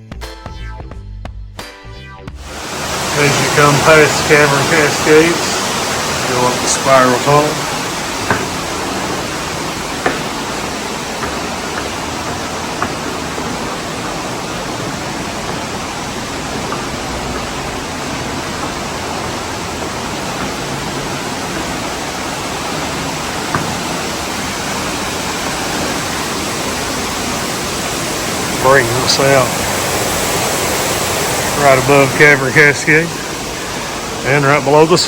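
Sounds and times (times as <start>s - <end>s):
waterfall rushing: 2.4s - 35.0s.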